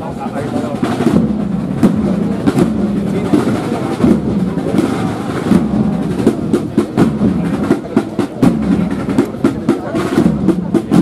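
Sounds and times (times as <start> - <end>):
marching drums: 0.0 - 11.0.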